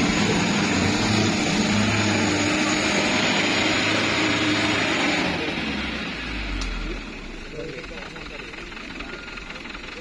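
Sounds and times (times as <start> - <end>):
truck engine running under load: 0.0 - 10.0.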